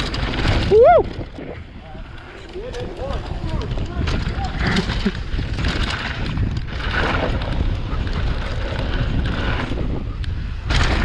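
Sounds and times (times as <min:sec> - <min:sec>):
bike rattling: 0:00.0 - 0:11.0
wind rushing on microphone: 0:00.0 - 0:11.0.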